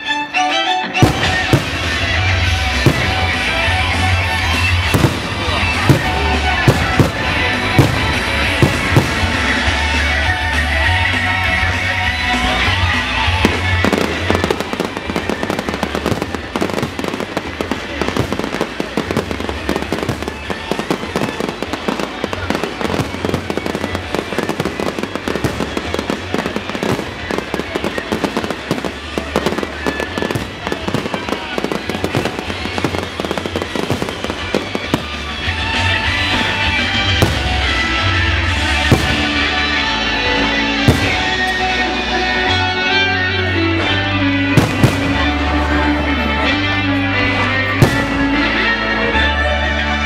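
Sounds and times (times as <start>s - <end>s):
background music: 0.0s - 50.0s
fireworks bangs and crackles: 0.9s - 50.0s.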